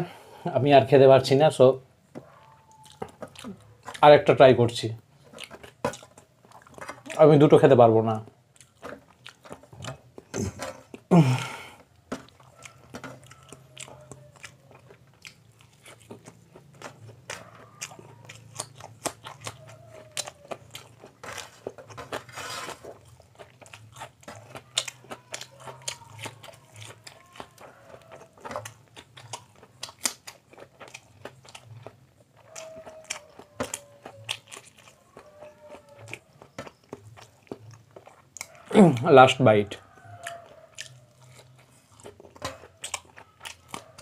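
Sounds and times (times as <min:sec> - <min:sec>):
close chewing with mouth clicks: 0:02.0 - 0:44.0.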